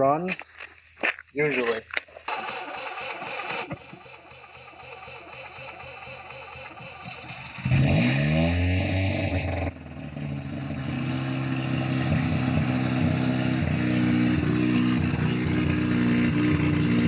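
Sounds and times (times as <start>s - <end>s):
engine idling: 2.2s - 8.7s, 9.3s - 17.0s
rotary engine starting and revving: 2.2s - 17.0s.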